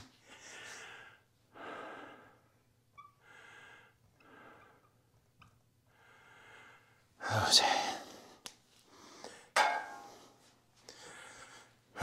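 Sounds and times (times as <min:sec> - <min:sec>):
faint breathing: 0:00.0 - 0:02.6, 0:03.2 - 0:05.0, 0:05.9 - 0:12.0.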